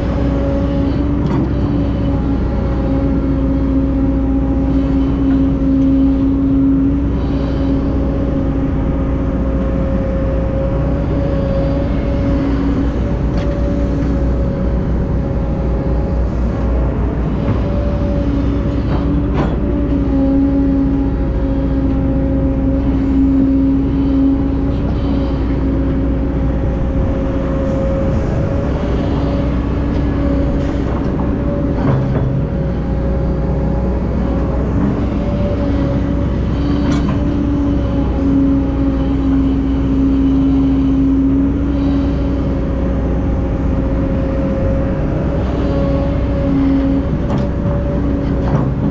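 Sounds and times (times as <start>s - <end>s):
diesel machinery running: 0.0s - 48.9s.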